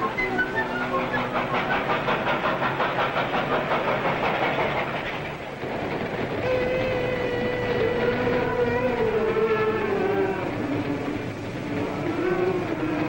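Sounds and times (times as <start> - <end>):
steam train passing: 0.0 - 13.0.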